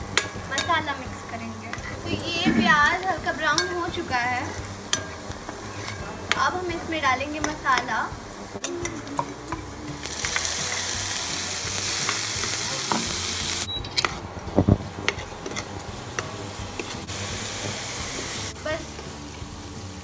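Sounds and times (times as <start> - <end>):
steel spoon scraping and tapping pan: 0.0 - 8.0, 8.6 - 10.9, 11.8 - 14.3, 15.0 - 18.4
spices sizzling in hot oil: 0.0 - 20.0.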